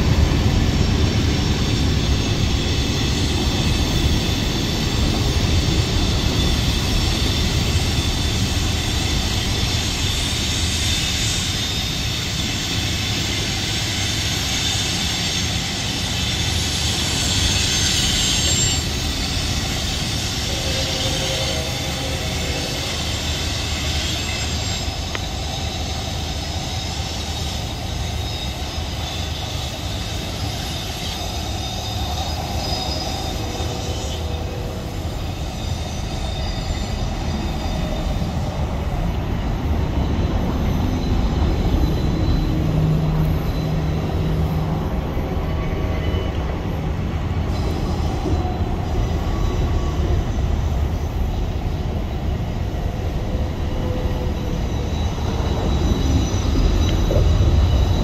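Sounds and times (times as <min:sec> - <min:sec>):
freight train rumbling past: 0:00.0 - 0:58.0
steel wheels squealing: 0:00.0 - 0:58.0.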